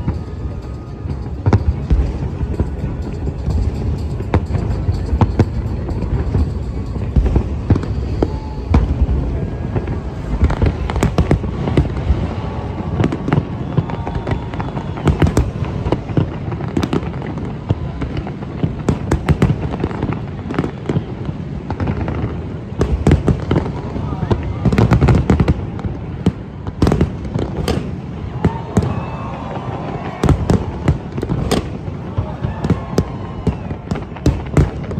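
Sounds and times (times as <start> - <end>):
fireworks bangs and crackles: 0.0 - 34.9
low rumble of explosions: 0.0 - 34.9.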